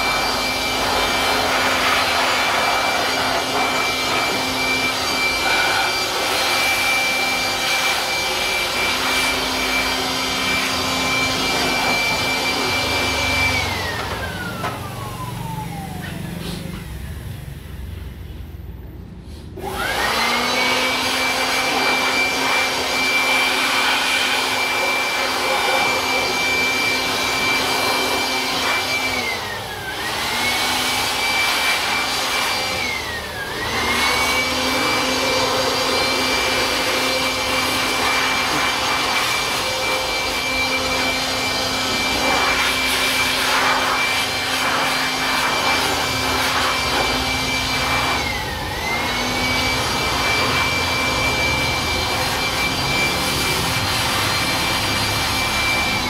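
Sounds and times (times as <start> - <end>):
electric blower whining: 0.0 - 17.5, 19.6 - 56.0.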